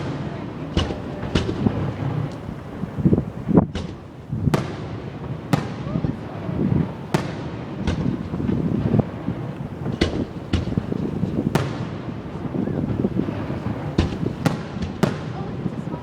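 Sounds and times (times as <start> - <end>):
fireworks bangs echoing: 0.0 - 16.0.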